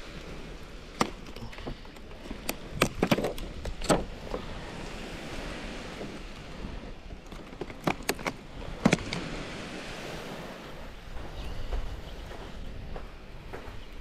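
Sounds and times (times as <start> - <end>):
wind and surf hiss: 0.0 - 14.0.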